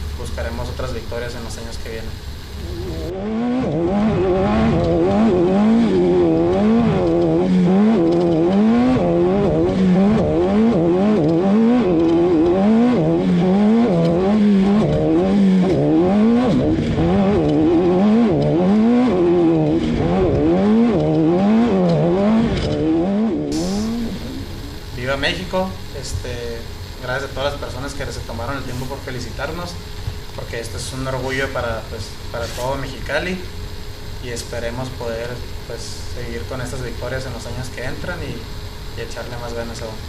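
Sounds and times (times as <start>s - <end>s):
race car engine revving: 0.0s - 33.6s.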